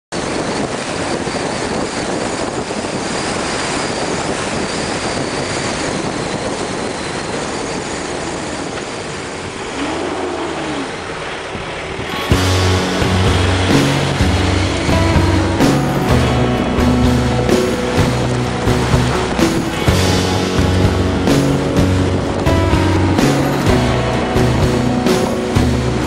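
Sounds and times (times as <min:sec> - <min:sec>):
tyre and wind noise: 0:00.1 - 0:26.0.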